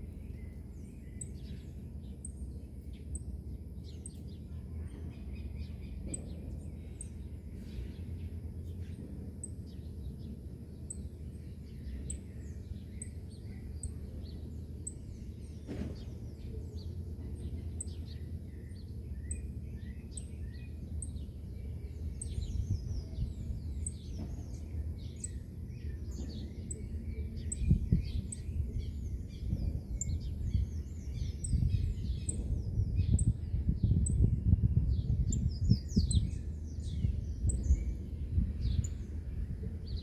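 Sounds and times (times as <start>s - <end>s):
birds chirping and singing: 0.0s - 40.0s
wind rumble on microphone: 0.0s - 40.0s.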